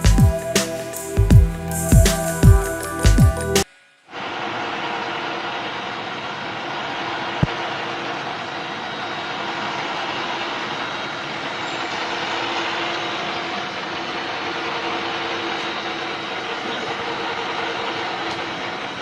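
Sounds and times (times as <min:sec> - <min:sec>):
machinery noise: 0:00.0 - 0:19.0.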